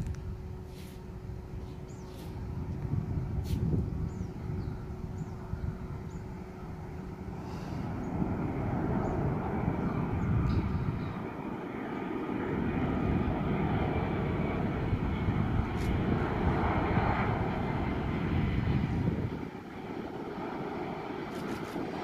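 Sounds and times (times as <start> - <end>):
low jet engine rumble: 0.0 - 22.0.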